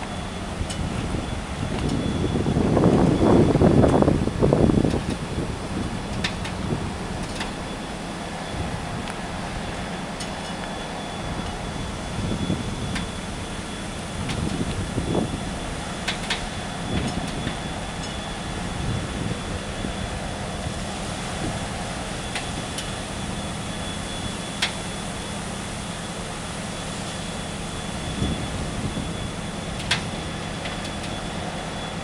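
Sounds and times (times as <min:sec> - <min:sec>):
ship engines droning: 0:00.0 - 0:32.0.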